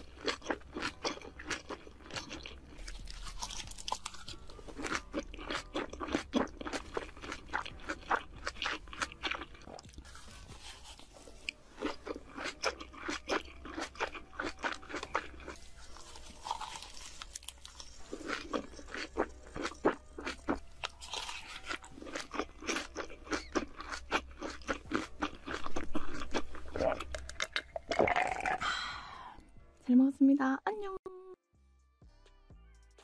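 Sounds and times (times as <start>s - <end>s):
crisp wet chewing crunches: 0.0s - 28.3s.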